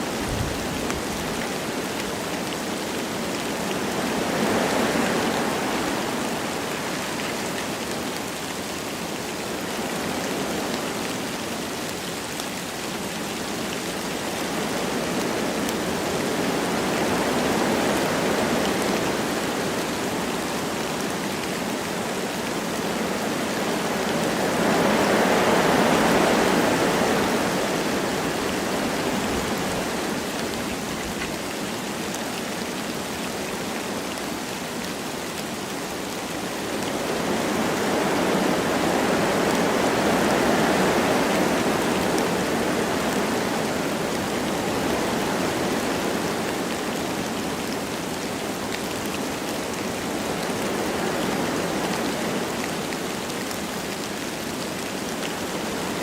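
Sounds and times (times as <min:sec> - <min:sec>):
light rain falling: 0:00.0 - 0:56.0
wind through trees: 0:00.0 - 0:56.0.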